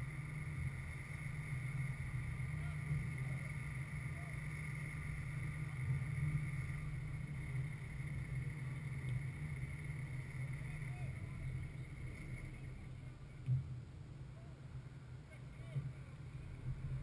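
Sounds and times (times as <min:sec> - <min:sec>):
distant voices of players: 0:00.0 - 0:17.0
low rumble: 0:00.0 - 0:17.0.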